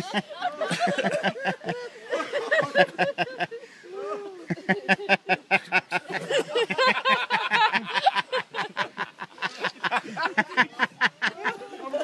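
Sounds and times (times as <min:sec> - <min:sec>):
people laughing and talking: 0:00.0 - 0:12.0.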